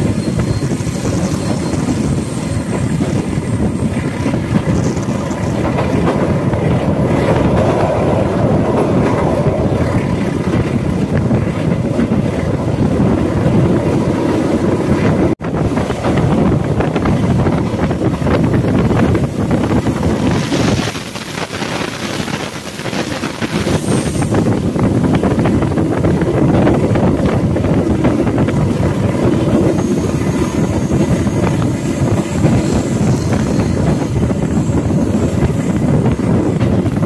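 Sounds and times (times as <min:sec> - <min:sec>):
train wheels rumbling on rails: 0:00.0 - 0:37.0
wind noise on microphone: 0:00.0 - 0:37.0.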